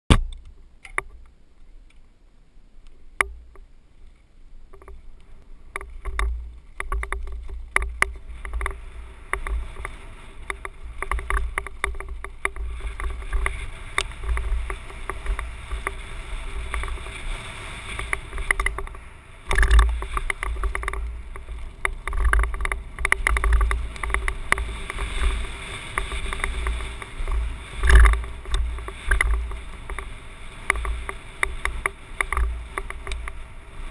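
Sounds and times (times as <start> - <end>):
bike rattling over stones: 3.2 - 33.9
wind buffeting microphone: 4.7 - 33.9
heavy bike jolts: 5.7 - 33.9.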